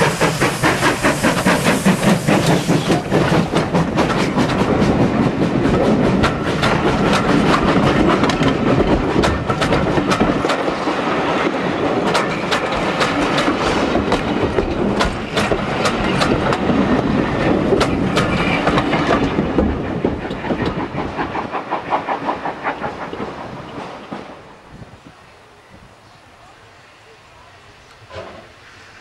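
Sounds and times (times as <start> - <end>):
train wheels clicking over rail joints: 0.0 - 24.8.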